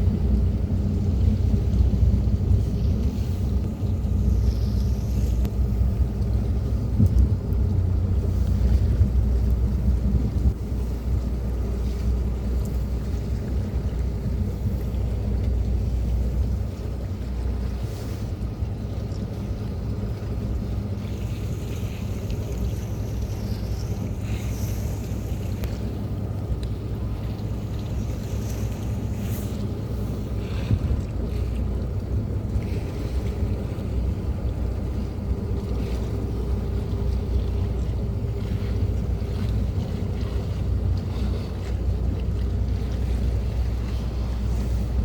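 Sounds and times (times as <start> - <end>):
boat engine rumbling: 0.0 - 45.0
water rushing past hull: 0.0 - 45.0
wind buffeting microphone: 0.0 - 45.0.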